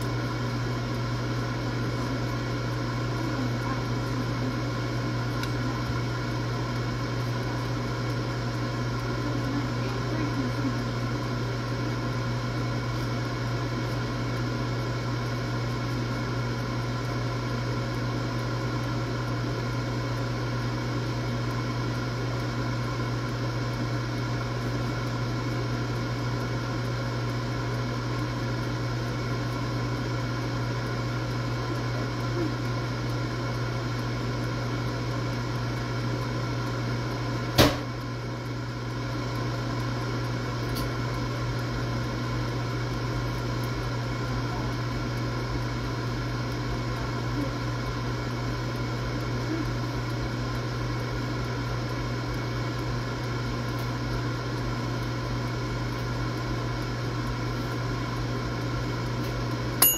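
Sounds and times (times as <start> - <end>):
air fryer fan humming: 0.0 - 59.9.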